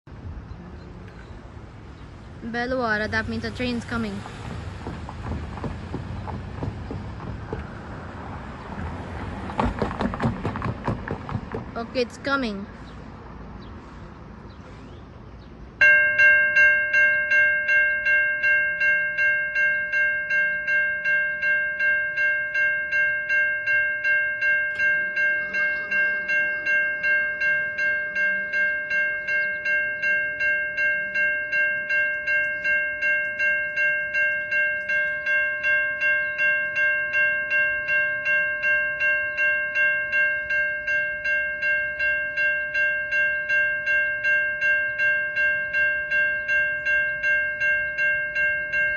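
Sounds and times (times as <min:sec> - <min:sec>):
railroad crossing bell ringing: 0:01.1 - 0:11.0, 0:11.7 - 0:12.9, 0:15.7 - 0:48.9.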